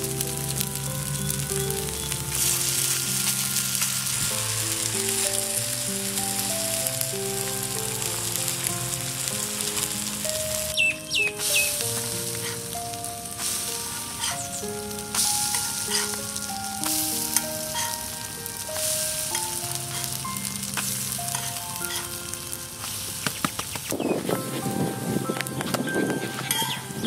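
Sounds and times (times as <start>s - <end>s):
background music melody: 0.0s - 27.0s
omelette sizzling in oil: 0.0s - 27.0s.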